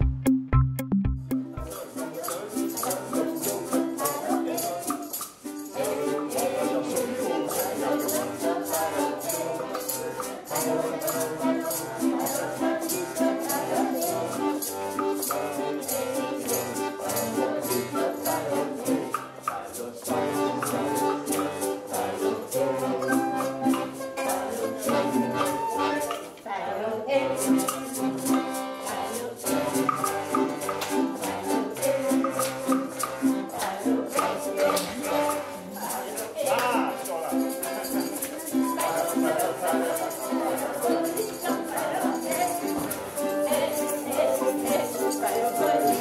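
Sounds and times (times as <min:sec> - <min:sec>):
background music: 0:00.0 - 0:26.2, 0:27.1 - 0:46.0
shaker-like percussion beat: 0:00.0 - 0:26.3, 0:27.3 - 0:46.0.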